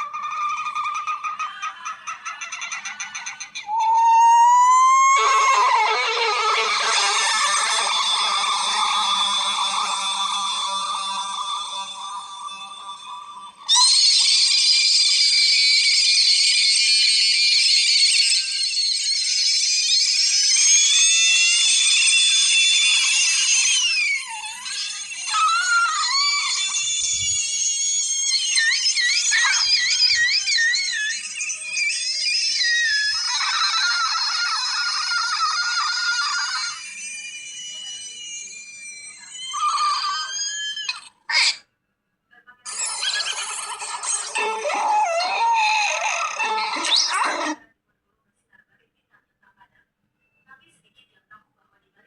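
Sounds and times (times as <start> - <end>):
shrill squealing cartoon cries: 0.0 - 41.7, 42.7 - 47.6.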